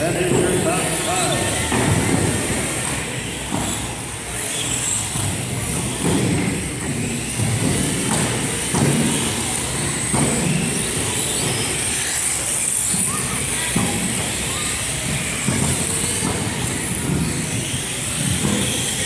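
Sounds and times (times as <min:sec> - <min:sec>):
rc car motor whine: 0:00.0 - 0:19.0
tyre and chassis noise: 0:00.0 - 0:19.0.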